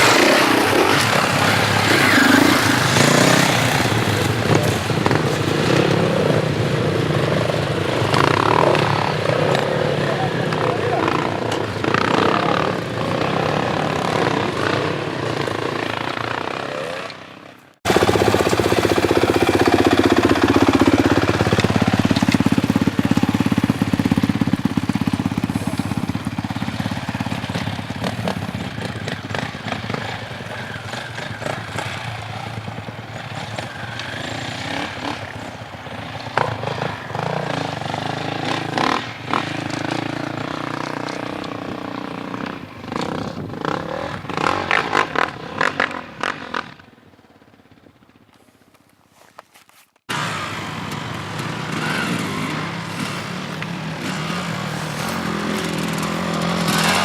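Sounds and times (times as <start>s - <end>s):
motorcycle engine running: 0.0s - 48.4s, 50.1s - 57.0s.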